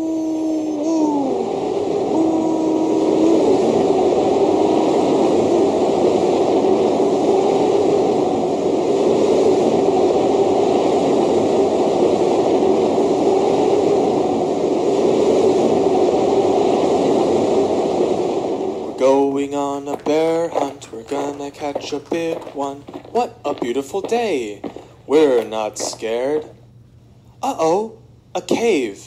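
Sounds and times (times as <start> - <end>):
loud steady wind: 0.0 - 29.0.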